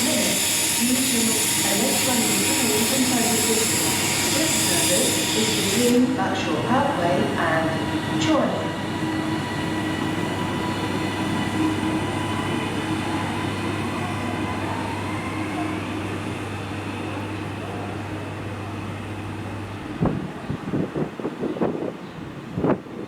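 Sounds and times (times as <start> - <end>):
train humming: 0.0 - 23.0.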